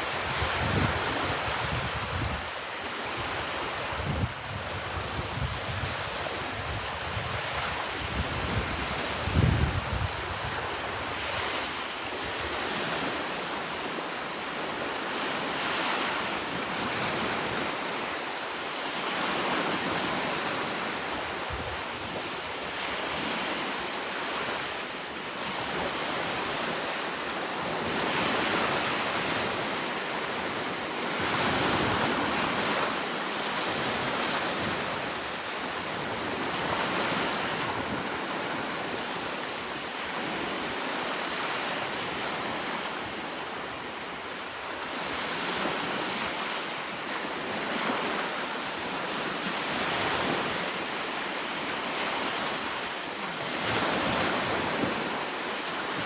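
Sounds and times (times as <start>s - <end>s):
sea waves breaking on shore: 0.0s - 56.0s
wind: 0.0s - 56.0s.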